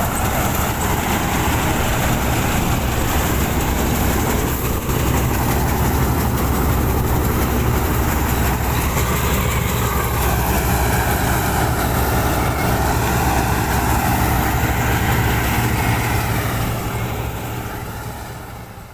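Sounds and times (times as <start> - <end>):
combine harvester engine drone: 0.0 - 18.9
even rushing noise: 0.0 - 18.9.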